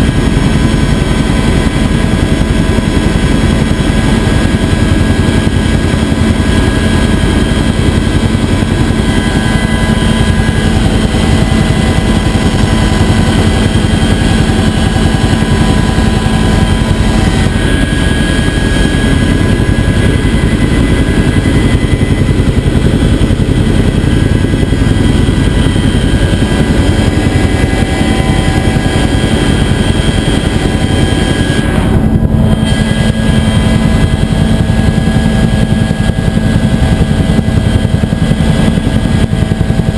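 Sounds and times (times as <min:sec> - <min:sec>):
helicopter rotor and engine din: 0:00.0 - 0:39.9
whining tones: 0:05.3 - 0:39.9.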